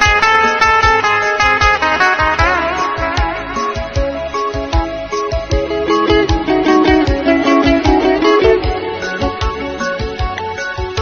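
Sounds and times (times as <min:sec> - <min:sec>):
bass: 0:00.0 - 0:11.0
guitar melody with vibrato: 0:00.0 - 0:11.0.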